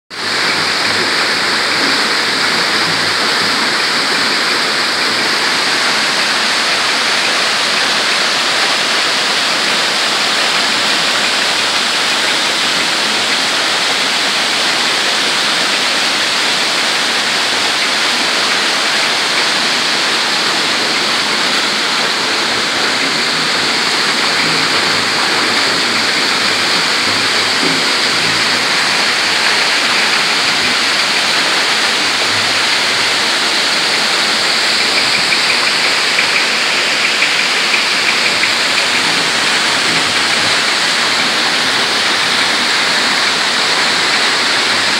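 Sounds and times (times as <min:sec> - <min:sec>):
water falling into basin: 0:00.2 - 0:44.9.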